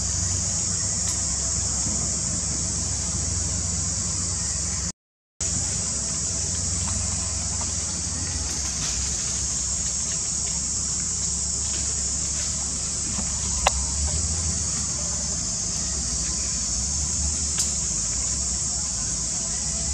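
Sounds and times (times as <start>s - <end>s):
insect chorus droning: 0.0s - 19.9s.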